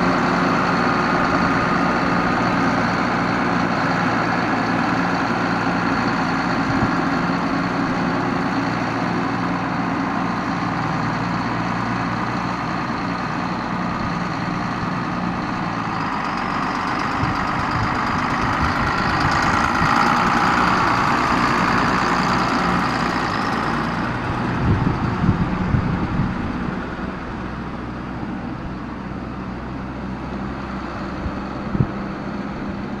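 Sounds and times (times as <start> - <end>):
tractor diesel engine passing: 0.0 - 33.0.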